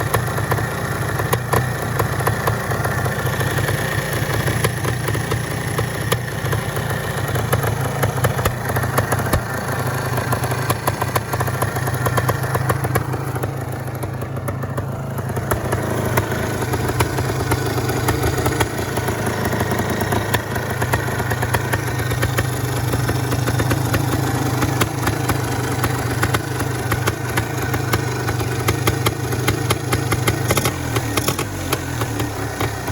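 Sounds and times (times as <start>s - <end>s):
two-stroke engine idling: 0.0s - 32.9s.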